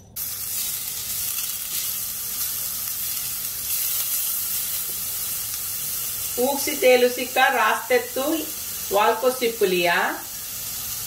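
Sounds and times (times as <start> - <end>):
oil sizzling in a pan: 0.2 - 11.0.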